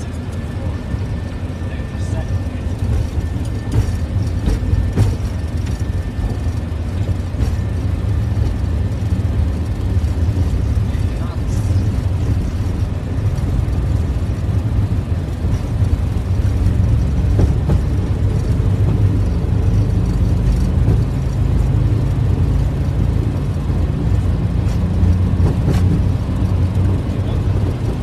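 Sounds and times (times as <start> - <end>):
jet engines deep rumble: 0.0 - 28.0
wheels on runway: 0.0 - 28.0.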